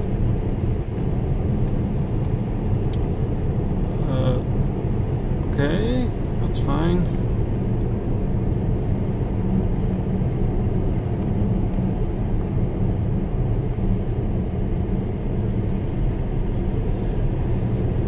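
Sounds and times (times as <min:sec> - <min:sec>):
road and tyre noise in car: 0:00.0 - 0:18.0.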